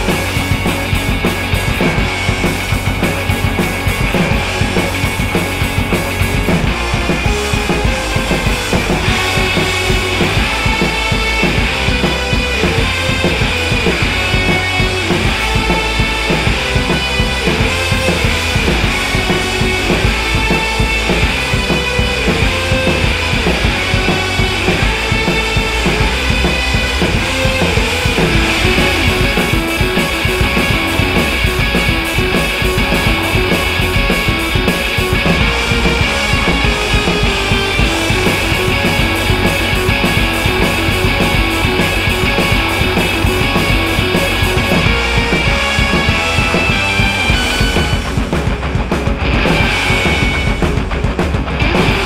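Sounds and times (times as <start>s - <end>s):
instrumental rock music: 0.0s - 52.0s.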